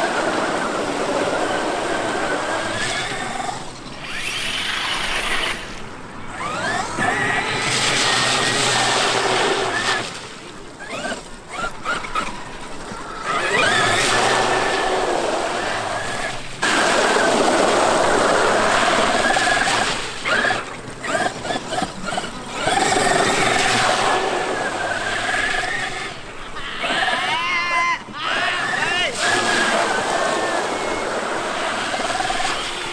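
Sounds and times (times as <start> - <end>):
electric motor whining: 0.0 - 27.4, 28.0 - 32.9.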